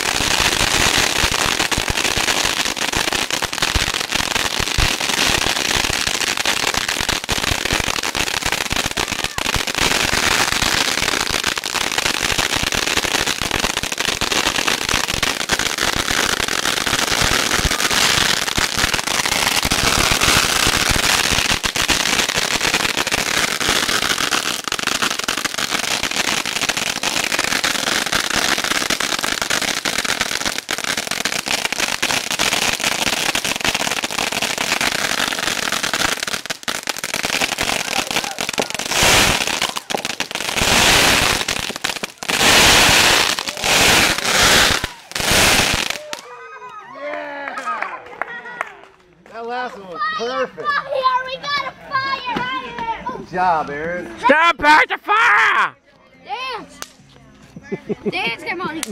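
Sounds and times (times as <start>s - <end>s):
firecrackers popping: 0.0s - 46.4s, 56.7s - 57.1s, 58.5s - 58.9s.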